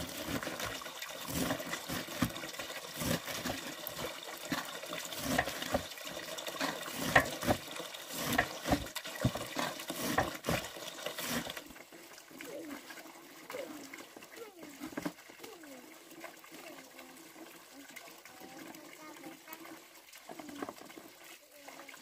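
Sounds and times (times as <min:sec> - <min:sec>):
water running into metal basin: 0:00.0 - 0:22.0.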